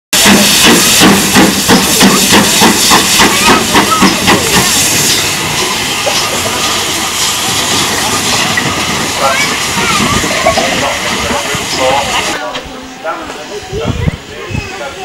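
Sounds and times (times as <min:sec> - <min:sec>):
steam hissing: 0:00.2 - 0:12.4
steam locomotive chuffing: 0:00.2 - 0:12.4.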